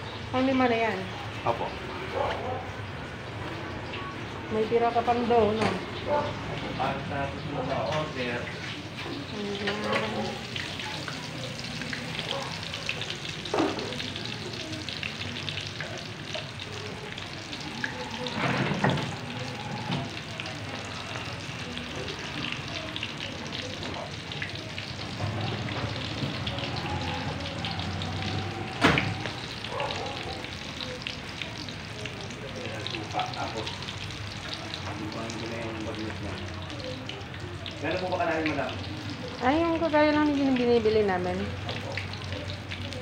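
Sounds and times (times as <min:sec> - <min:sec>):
food deep-frying in oil: 0:00.0 - 0:43.0.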